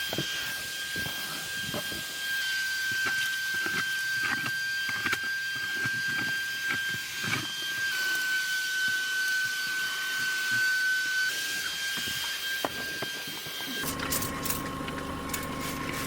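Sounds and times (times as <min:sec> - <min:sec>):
vacuum cleaner whining: 0:00.0 - 0:16.0.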